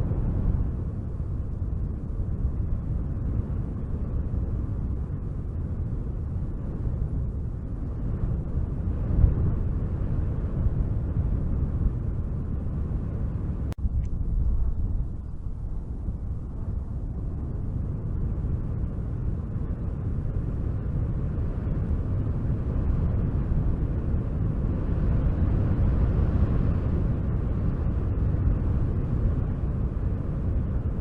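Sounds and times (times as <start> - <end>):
wind blowing in gusts: 0.0 - 31.0.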